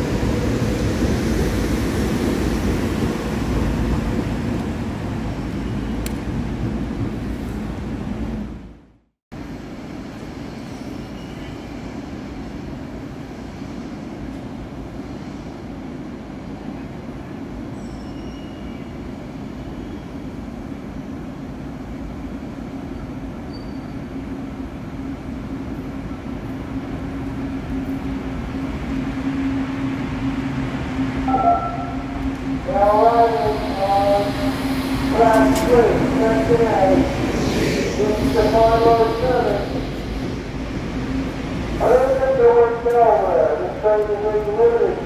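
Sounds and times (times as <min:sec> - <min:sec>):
electric train rumbling and humming: 0:00.0 - 0:45.0.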